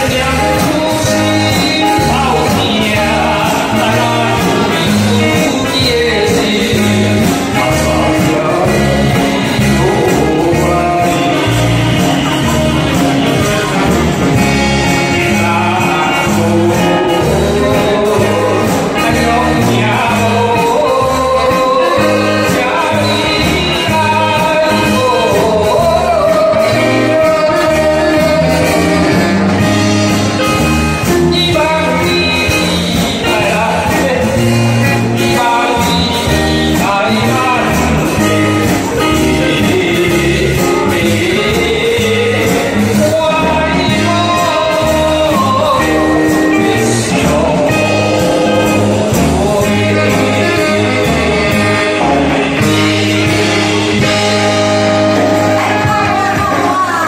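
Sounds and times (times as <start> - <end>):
backing music with steady beat: 0.0 - 57.0
man singing into a microphone: 0.0 - 57.0.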